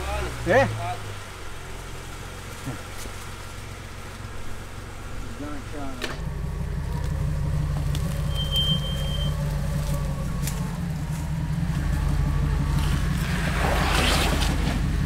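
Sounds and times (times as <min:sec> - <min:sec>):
vehicle engine running at low revs: 0:00.0 - 0:15.0.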